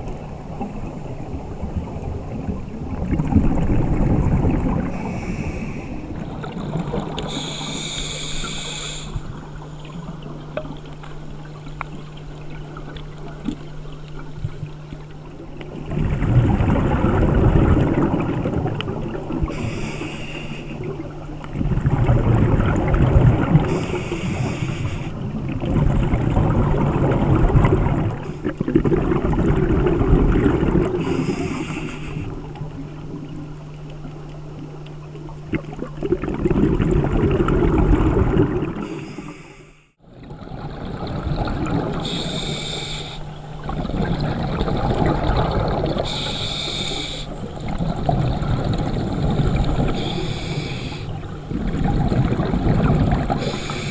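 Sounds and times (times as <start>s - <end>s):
exhaled bubbles underwater: 0.0s - 39.4s, 40.0s - 53.9s
steady low hum: 0.0s - 53.9s.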